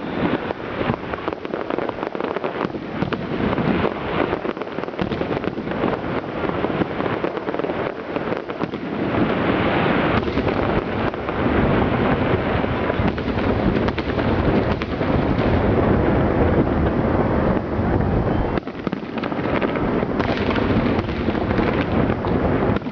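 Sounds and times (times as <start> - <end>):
fireworks bursts rumbling: 0.0 - 22.9
fireworks crackling: 0.0 - 22.9.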